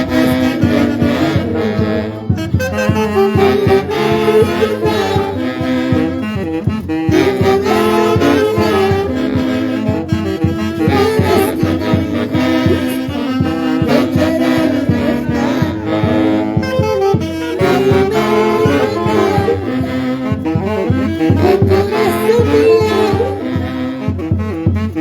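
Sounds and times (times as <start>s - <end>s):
orchestra with saxophones: 0.0s - 25.0s
steady drum beat: 0.0s - 25.0s.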